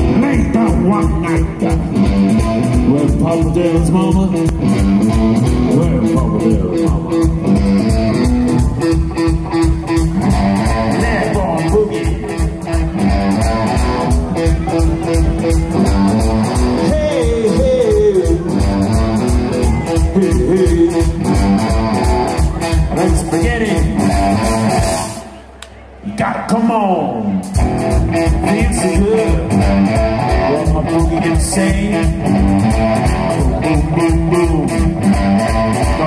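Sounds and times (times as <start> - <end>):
rock music with electric guitar: 0.0 - 26.0, 27.3 - 36.0.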